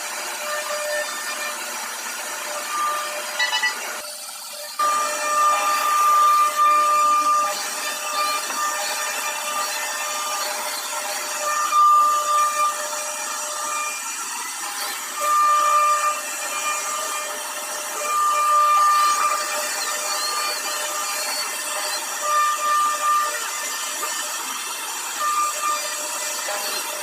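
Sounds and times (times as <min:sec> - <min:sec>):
cutter carving wood: 0:00.0 - 0:27.0
router spindle high whine: 0:00.0 - 0:27.0.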